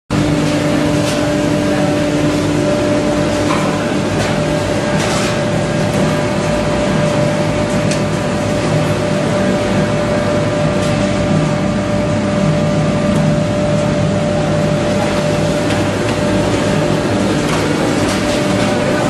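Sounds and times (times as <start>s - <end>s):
machine droning: 0.1s - 19.0s
machine whine: 0.1s - 19.0s.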